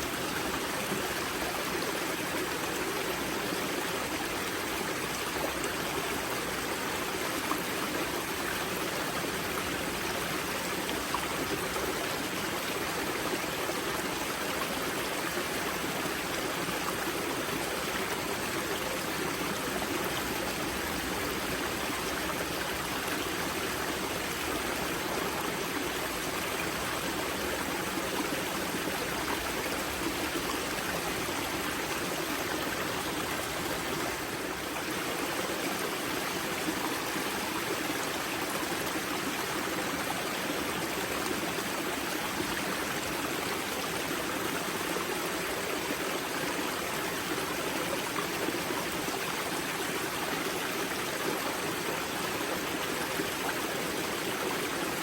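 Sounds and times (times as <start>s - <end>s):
river water rushing and gurgling: 0.0s - 55.0s.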